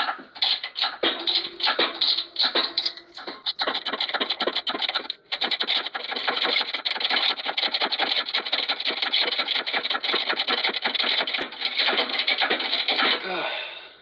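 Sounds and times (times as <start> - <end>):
hydraulic press mechanical clicking: 0.0 - 13.3.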